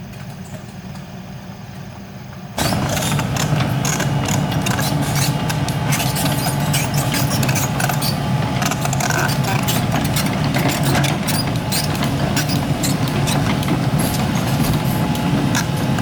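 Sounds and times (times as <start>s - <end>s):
dense clatter and rattle: 2.6s - 16.0s
excavator diesel engine: 2.6s - 16.0s.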